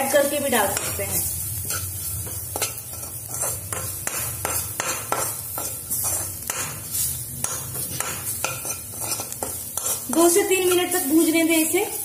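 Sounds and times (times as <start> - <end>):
food frying in oil: 0.0 - 12.0
steel ladle scraping a pan: 0.7 - 11.3.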